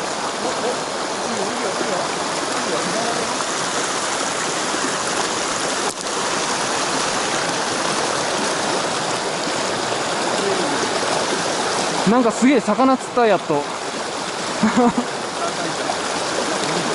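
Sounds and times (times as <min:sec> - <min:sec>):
stream water rushing over rocks: 0:00.0 - 0:16.9.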